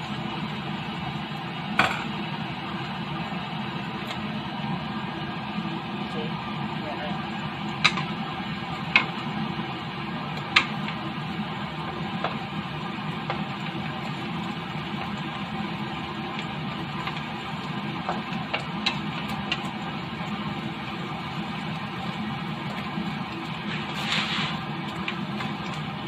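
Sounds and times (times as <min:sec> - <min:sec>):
food sizzling in a wok: 0:00.0 - 0:26.0.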